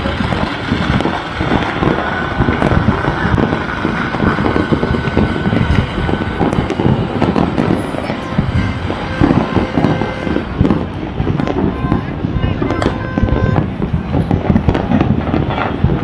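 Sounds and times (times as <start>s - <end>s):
constant low rumble: 0.0s - 16.0s
distant booms: 0.0s - 16.0s
fireworks and firecrackers popping: 0.0s - 16.0s.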